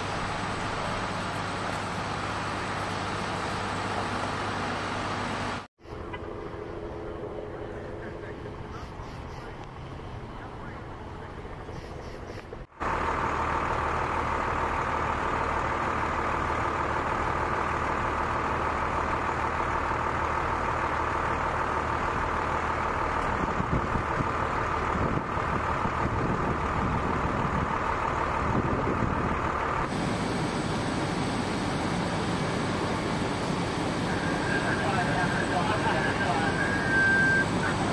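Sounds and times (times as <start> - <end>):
engine whine: 0.0 - 37.9
truck engine running: 0.0 - 37.9.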